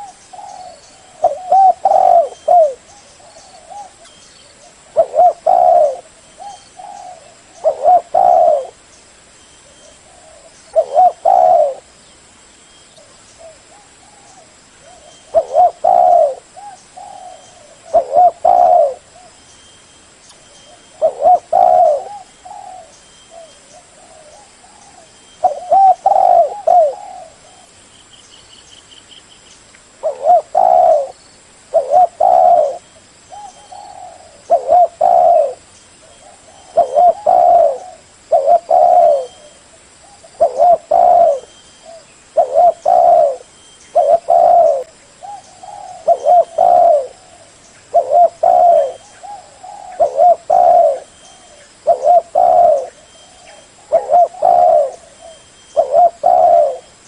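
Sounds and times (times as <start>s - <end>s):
dove cooing: 0.0s - 8.9s, 9.6s - 11.9s, 13.0s - 19.4s, 20.5s - 27.7s, 30.0s - 57.0s
small birds chirping: 0.0s - 57.0s.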